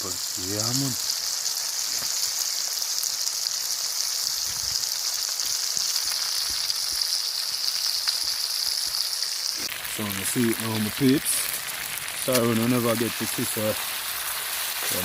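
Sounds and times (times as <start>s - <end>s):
seasoning sizzling in a hot pot: 0.0s - 15.0s
small crackles: 1.0s - 15.0s.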